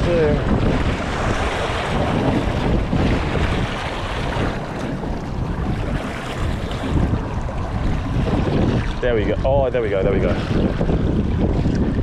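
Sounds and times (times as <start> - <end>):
ocean wash: 0.0 - 12.0
wind buffeting microphone: 0.0 - 12.0.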